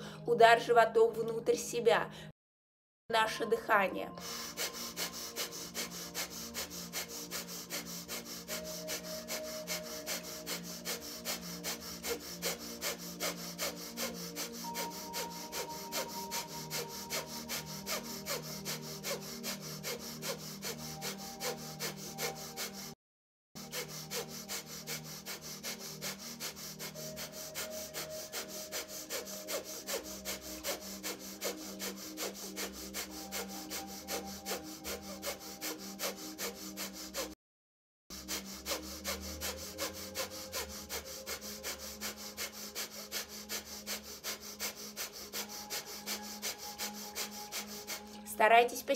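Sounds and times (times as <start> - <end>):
rapid forceful nasal exhales: 4.2 - 23.0, 23.6 - 37.4, 38.1 - 48.2.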